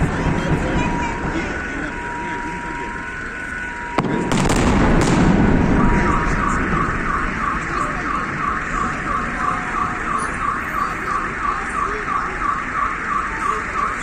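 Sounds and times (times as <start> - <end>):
low fireworks rumble: 0.0 - 14.0
car alarm warbling chirp: 0.1 - 14.0.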